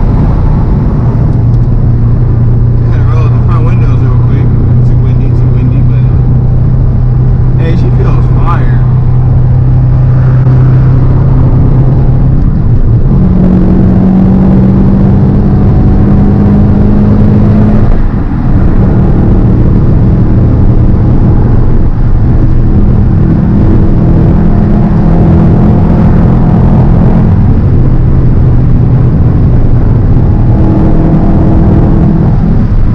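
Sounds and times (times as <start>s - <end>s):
car engine revving while driving: 0.0s - 32.9s.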